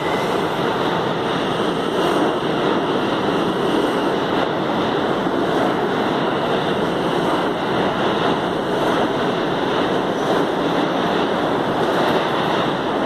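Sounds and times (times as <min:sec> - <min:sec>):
subway train wheels rushing: 0:00.0 - 0:13.0.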